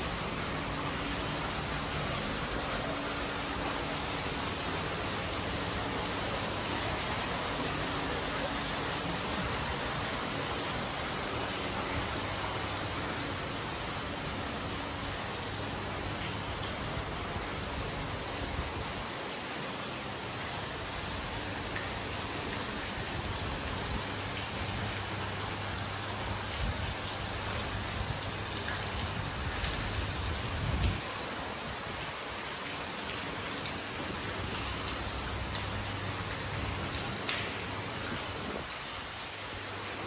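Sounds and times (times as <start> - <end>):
fountain water splashing into pond: 0.0 - 40.0.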